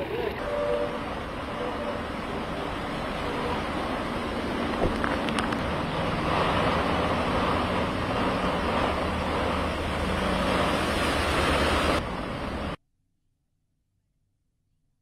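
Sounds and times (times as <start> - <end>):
low engine hum: 0.0 - 12.8
rain and tyres hissing on water: 0.0 - 12.8.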